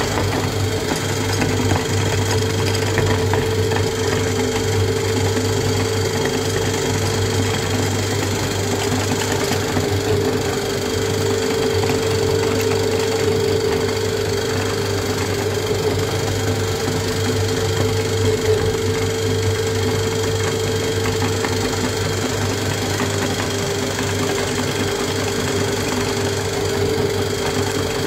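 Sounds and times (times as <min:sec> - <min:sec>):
meat grinder motor humming: 0:00.0 - 0:28.0.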